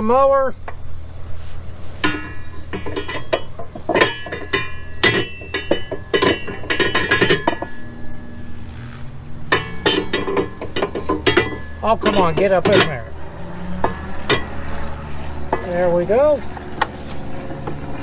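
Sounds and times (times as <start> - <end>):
metal parts clanking: 2.0 - 8.6, 9.5 - 18.0.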